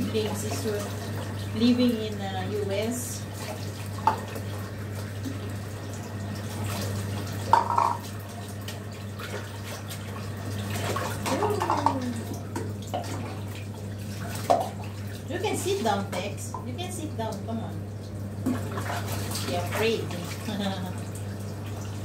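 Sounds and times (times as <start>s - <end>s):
tap water running: 0.0s - 22.0s
water splashing and dripping: 3.2s - 22.0s.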